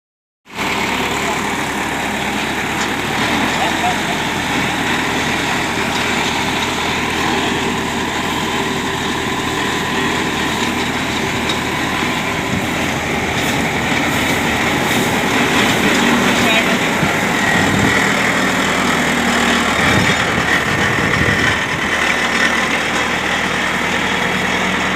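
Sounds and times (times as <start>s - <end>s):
tractor engine: 0.4s - 24.9s
baler machinery running: 0.5s - 24.9s.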